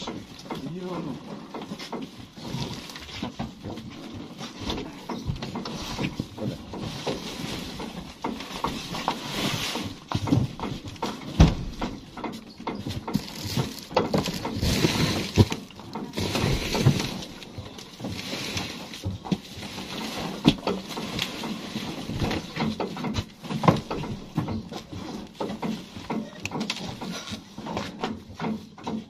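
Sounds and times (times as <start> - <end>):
objects being handled: 0.0 - 29.0.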